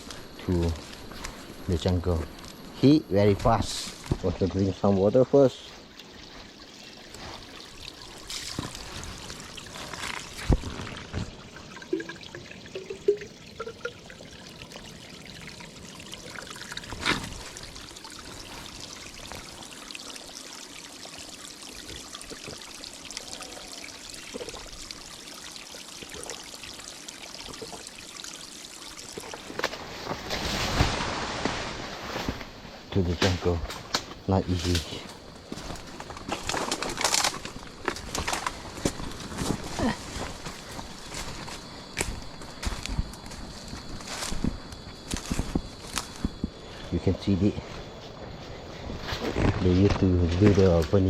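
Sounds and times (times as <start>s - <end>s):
water trickling: 0.0s - 30.7s, 34.1s - 48.6s.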